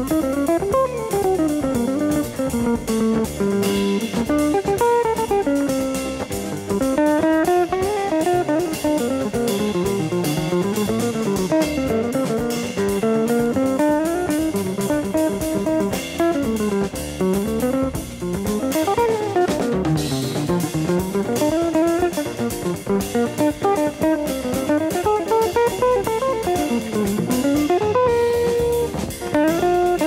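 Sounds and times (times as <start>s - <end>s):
drums: 0.0s - 30.0s
jazz guitar runs: 0.0s - 30.0s
walking bass: 0.0s - 30.0s.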